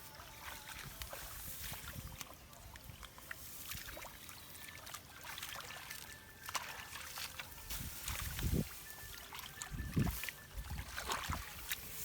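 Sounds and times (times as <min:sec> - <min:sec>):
shallow water trickling and splashing: 0:00.0 - 0:12.0.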